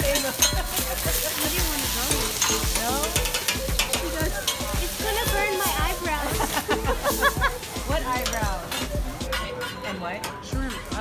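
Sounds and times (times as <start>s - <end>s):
food sizzling on a griddle: 0.0s - 9.4s.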